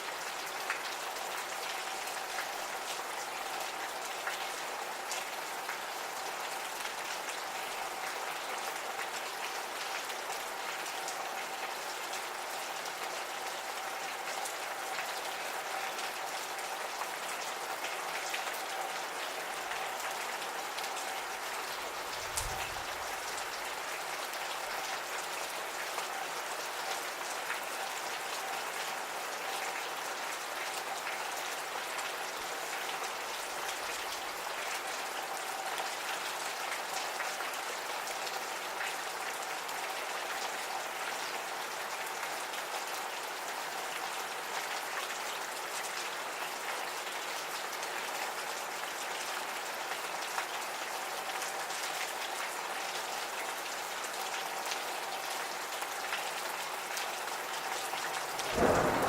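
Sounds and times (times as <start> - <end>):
gentle rain pattering: 0.0 - 59.0.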